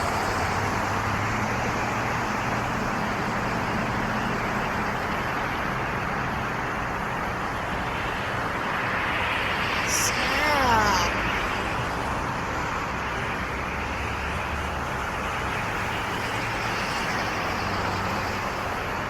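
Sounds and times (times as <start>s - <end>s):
road vehicle engine hum: 0.0s - 9.9s, 10.5s - 19.0s.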